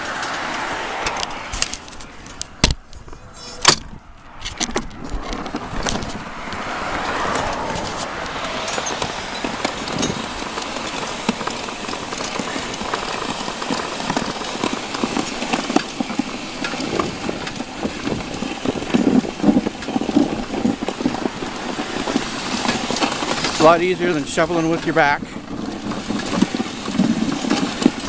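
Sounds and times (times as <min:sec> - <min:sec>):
plow blade scraping snow: 0:00.0 - 0:28.0
snow crunching under tyres: 0:00.0 - 0:28.0.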